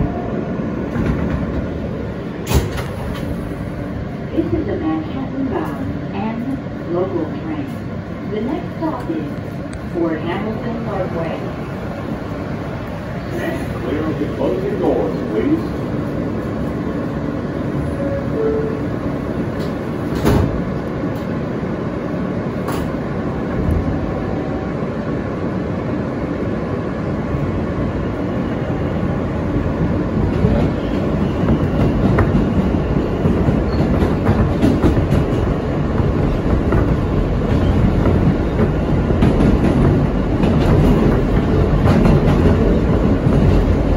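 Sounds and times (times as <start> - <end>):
subway rail running noise: 0.0 - 43.9.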